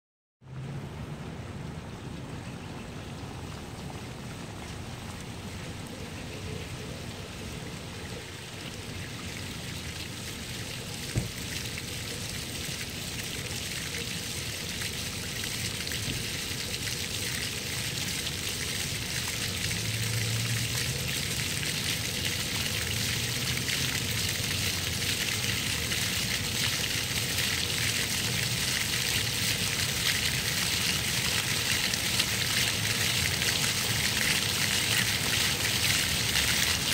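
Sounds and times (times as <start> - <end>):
fountain jets splashing on paving: 0.8 - 36.9.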